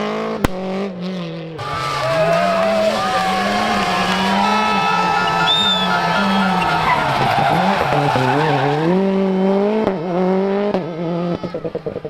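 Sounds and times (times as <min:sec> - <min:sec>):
rally car engine at high revs: 0:00.0 - 0:12.0
tyres skidding: 0:01.6 - 0:12.0.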